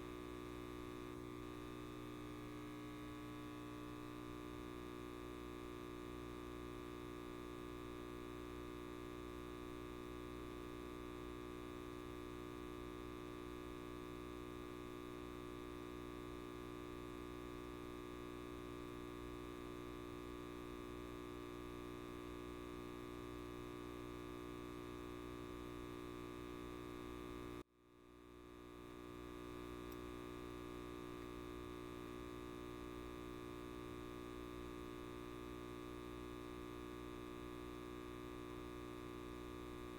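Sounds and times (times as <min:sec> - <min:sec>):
light bulb electrical hum: 0:00.0 - 0:39.9.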